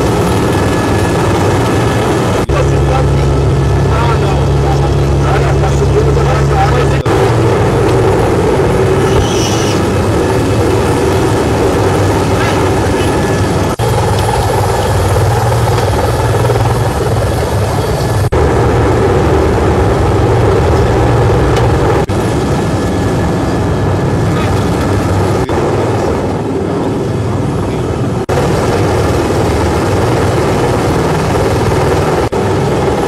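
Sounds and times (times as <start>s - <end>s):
helicopter cabin drone: 0.0s - 33.0s.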